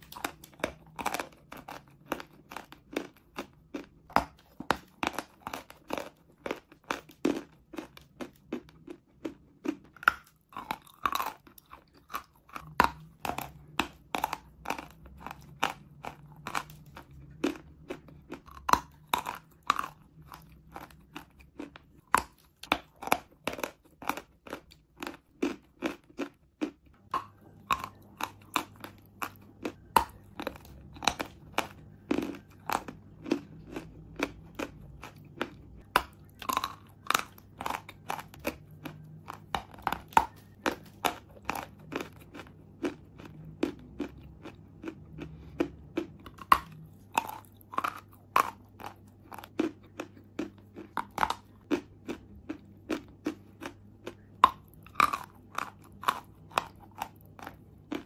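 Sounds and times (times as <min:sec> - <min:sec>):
chalk being chewed crunching: 0:00.0 - 0:58.0.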